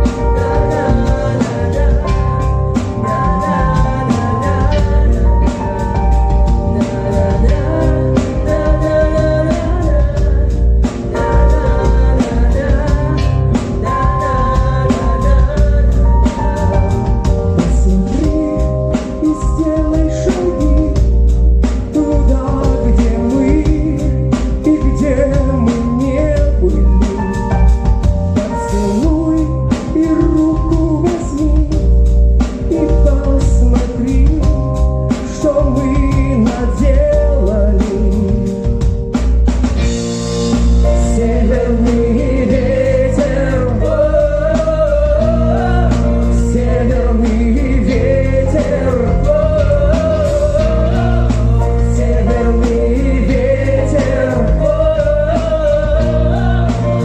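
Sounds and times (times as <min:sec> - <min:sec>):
drum kit: 0:00.0 - 0:57.0
keyboard chords: 0:00.0 - 0:57.0
wavering lead melody: 0:00.0 - 0:57.0.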